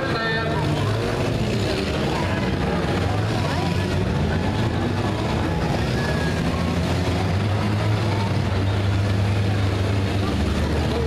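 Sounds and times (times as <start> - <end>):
car engines droning: 0.0 - 11.0.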